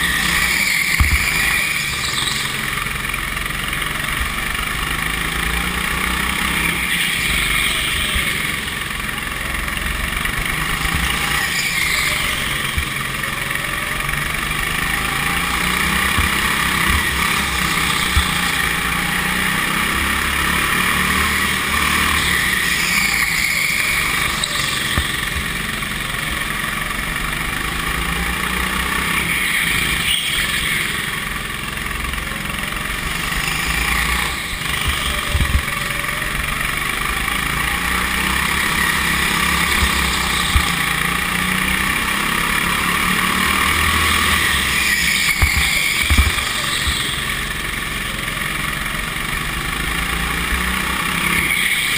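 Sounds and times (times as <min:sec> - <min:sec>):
go-kart engine running: 0:00.0 - 0:51.9
wind and tyre noise: 0:00.0 - 0:51.9.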